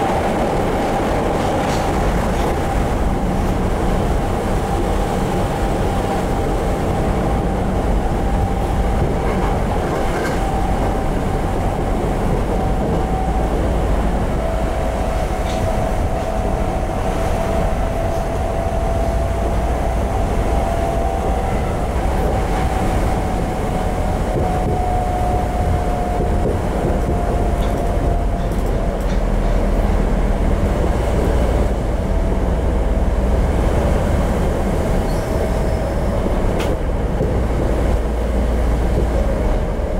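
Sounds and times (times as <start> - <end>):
subway car wheels rumbling: 0.0 - 39.9.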